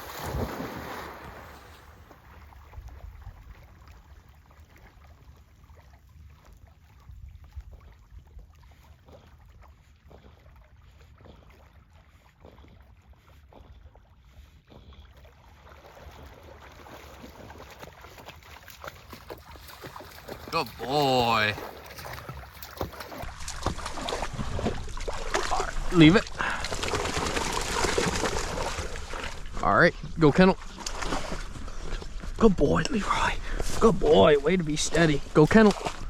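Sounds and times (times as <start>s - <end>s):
water splashing and lapping: 0.0s - 36.0s.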